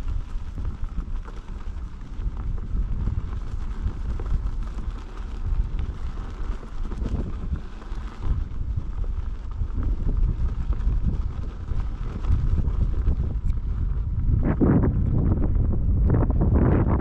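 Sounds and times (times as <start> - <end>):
electric unicycle rumbling on dirt: 0.0 - 17.0
wind buffeting microphone: 0.0 - 17.0.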